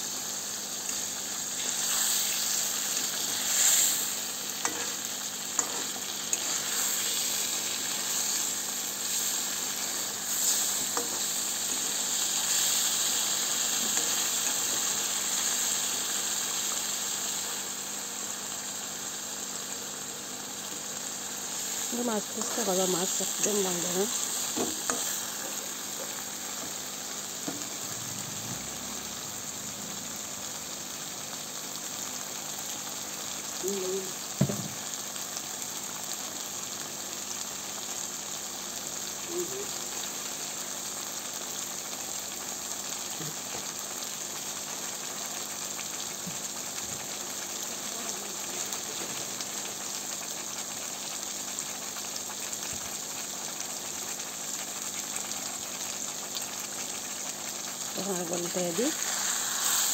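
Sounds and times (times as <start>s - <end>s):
curry sizzling in oil: 0.0s - 59.9s.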